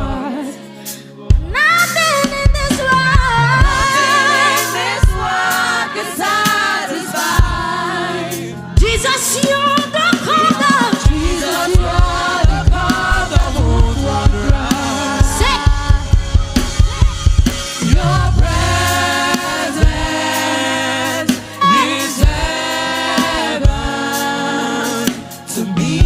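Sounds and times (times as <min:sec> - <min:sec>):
drum kit: 0:00.9 - 0:26.0
singers holding long notes: 0:01.6 - 0:26.0.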